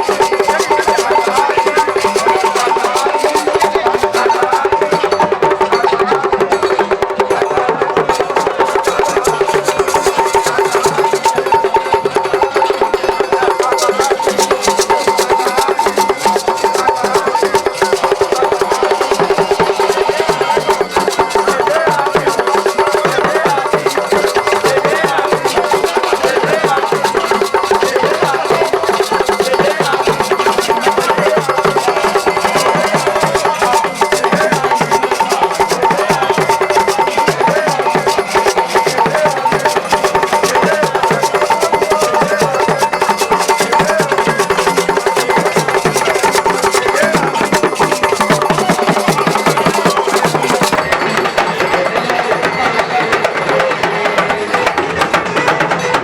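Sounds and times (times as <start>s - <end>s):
music with busy percussion: 0.0s - 56.0s.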